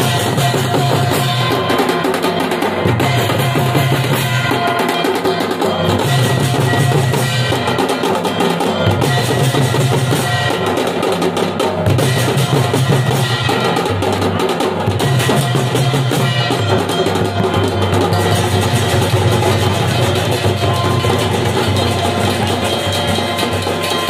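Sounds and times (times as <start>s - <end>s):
small kettle drums: 0.0s - 24.0s
stick-beaten drum: 0.0s - 24.0s.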